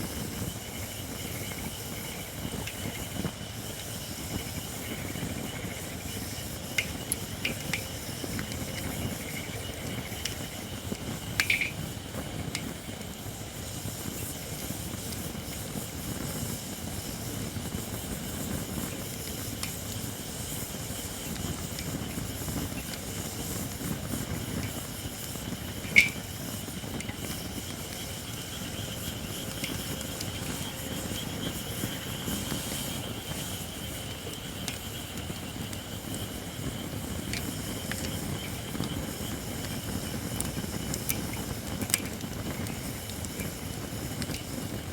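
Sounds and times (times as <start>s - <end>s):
fire crackles and pops: 0.0s - 44.9s
hiss from burning wood: 0.0s - 44.9s
low rush of flame: 0.0s - 44.9s.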